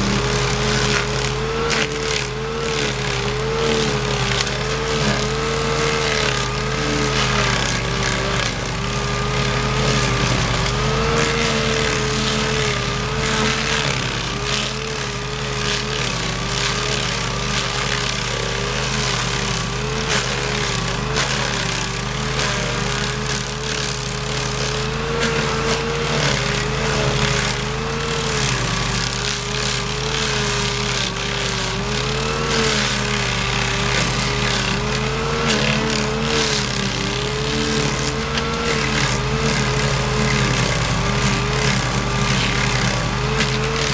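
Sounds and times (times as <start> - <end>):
cutter wheel grinding wood: 0.0 - 43.9
stump grinder engine: 0.0 - 43.9.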